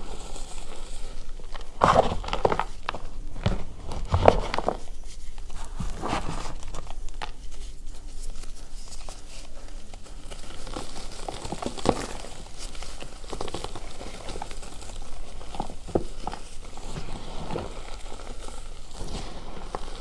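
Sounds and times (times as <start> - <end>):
hands crushing chalk lumps: 0.0 - 20.0.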